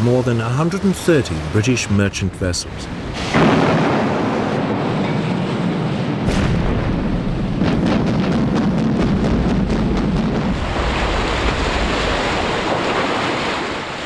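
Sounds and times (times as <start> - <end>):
rough sea rushing: 0.0 - 7.6, 9.5 - 14.0
wind: 0.0 - 14.0.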